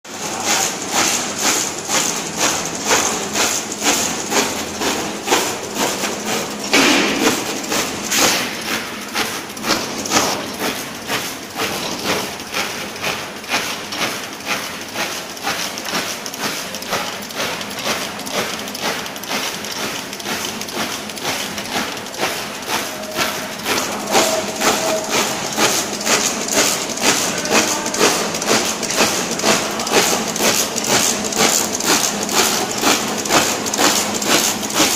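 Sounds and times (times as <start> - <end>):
label printing machine knocking: 0.1 - 34.9.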